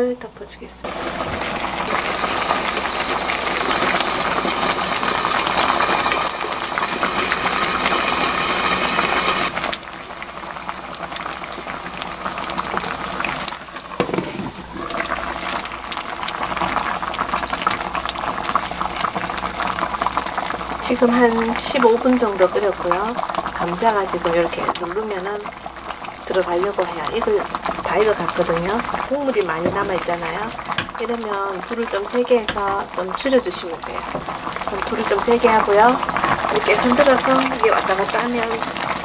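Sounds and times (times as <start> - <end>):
stew bubbling in a pan: 0.8 - 39.0.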